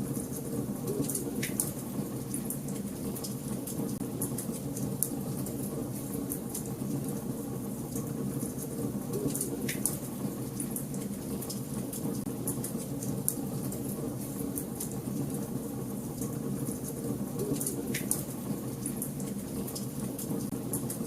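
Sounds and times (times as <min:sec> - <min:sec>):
low rumble of flames: 0:00.0 - 0:21.0.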